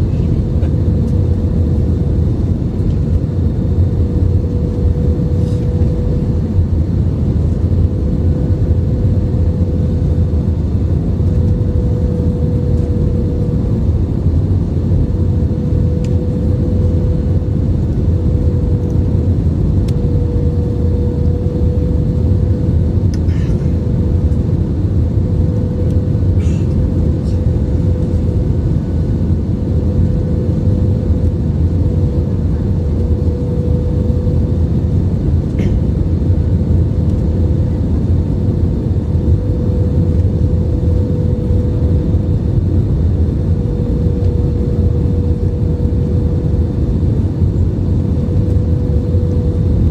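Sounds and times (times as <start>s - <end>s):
constant cabin hum: 0.0s - 49.9s
jet engines and airflow rumble: 0.0s - 49.9s.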